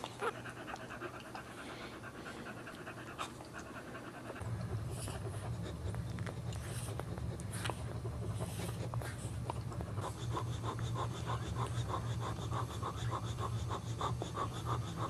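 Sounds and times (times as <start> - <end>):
puppies suckling clicks: 0.0 - 1.6, 2.6 - 15.0
dog breathing rapidly: 0.0 - 15.0
steady low hum: 0.0 - 15.0.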